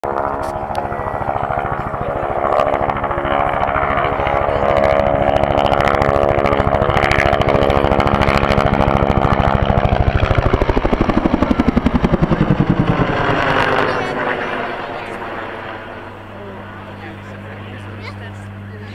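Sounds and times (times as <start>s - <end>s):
helicopter engine tone: 0.0s - 18.9s
helicopter rotor beating: 0.0s - 18.9s.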